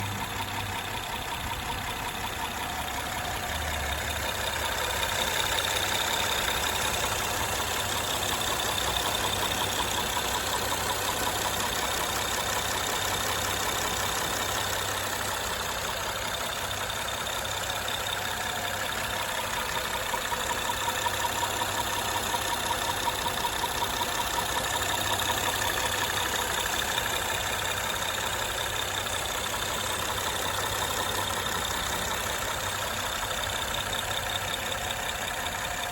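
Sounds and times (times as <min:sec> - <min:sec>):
car engine running: 0:00.0 - 0:35.9
rapid engine knocking tick: 0:00.0 - 0:35.9.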